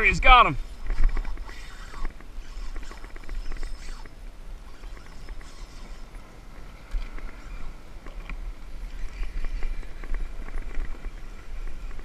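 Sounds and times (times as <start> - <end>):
fishing reel drag clicking: 0.6 - 12.0
wind rumble on microphone: 0.6 - 12.0.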